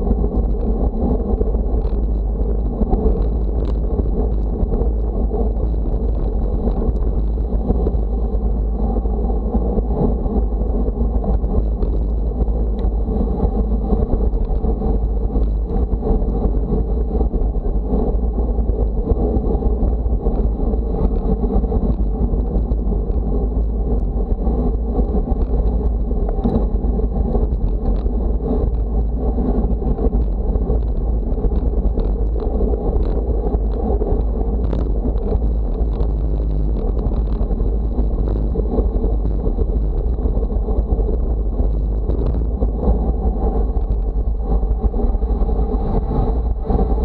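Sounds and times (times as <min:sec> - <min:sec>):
road noise at speed: 0:00.0 - 0:47.0
wind buffeting the microphone: 0:00.0 - 0:47.0.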